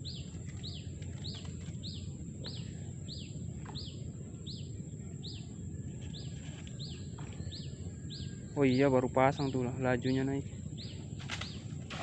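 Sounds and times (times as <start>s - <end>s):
bird chirping: 0.0s - 12.0s
high insect whine: 0.0s - 12.0s
low background rumble: 0.0s - 12.0s.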